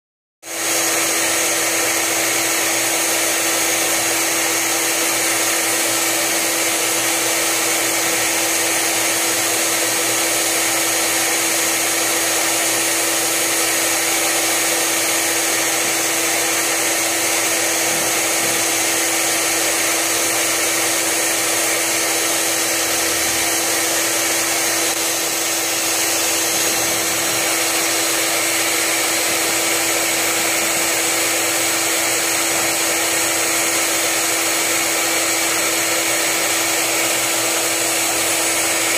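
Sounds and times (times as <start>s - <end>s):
rotary polisher humming and hissing: 0.5s - 38.9s.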